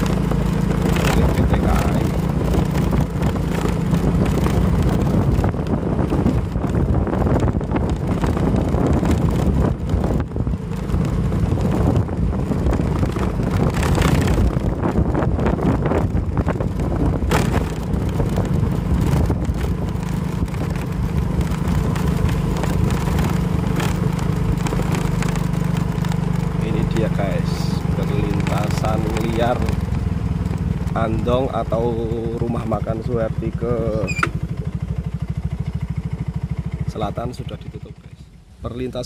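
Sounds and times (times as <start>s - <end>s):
wind rushing over microphone: 0.0s - 37.3s
small vehicle engine running: 0.0s - 38.6s.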